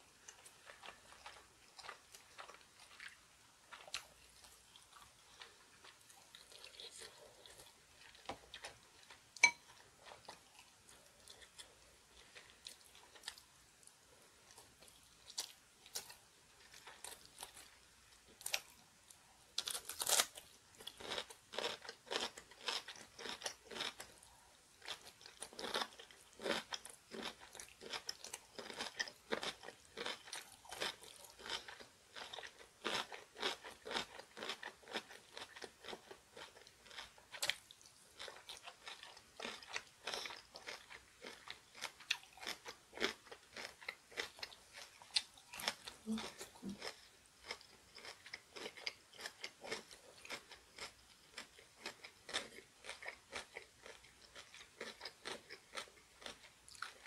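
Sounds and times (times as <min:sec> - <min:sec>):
crunchy chewing: 0:00.3 - 0:17.7, 0:19.6 - 0:57.0.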